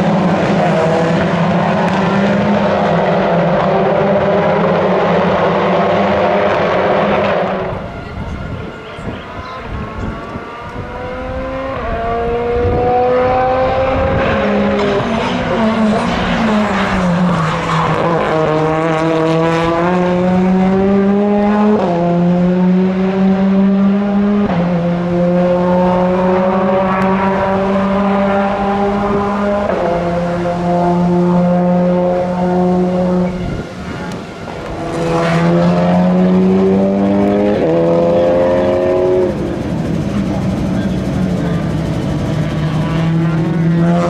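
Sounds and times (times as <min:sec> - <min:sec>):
race car engines accelerating: 0:00.0 - 0:44.0.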